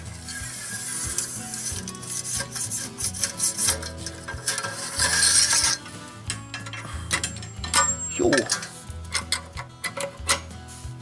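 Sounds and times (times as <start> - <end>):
metal grill parts scraping and clattering: 0.0 - 11.0.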